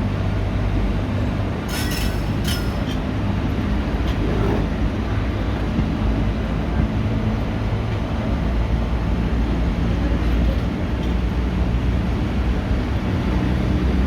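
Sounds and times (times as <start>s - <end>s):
train coach rumbling on track: 0.0s - 14.0s.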